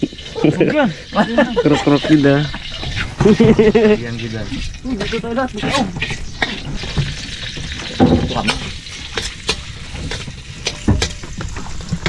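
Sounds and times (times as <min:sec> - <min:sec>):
food sizzling in oil: 0:00.0 - 0:12.0
spatula scraping a pan: 0:00.0 - 0:12.0.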